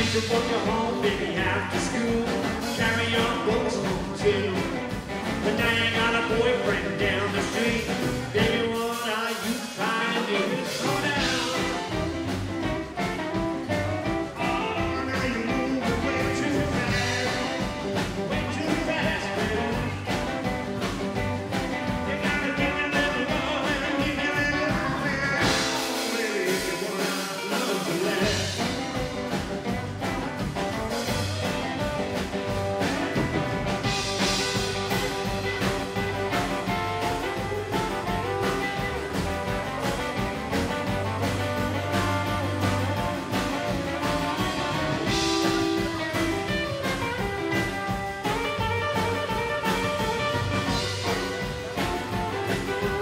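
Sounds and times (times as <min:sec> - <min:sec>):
drums and cymbals: 0:00.0 - 0:53.0
rockabilly band playing: 0:00.0 - 0:53.0.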